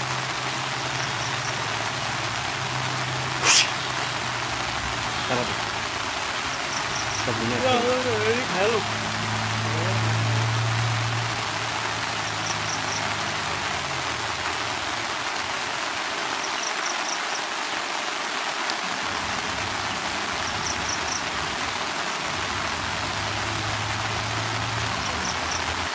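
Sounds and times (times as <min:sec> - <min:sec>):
rain falling on wet ground: 0:00.0 - 0:25.9.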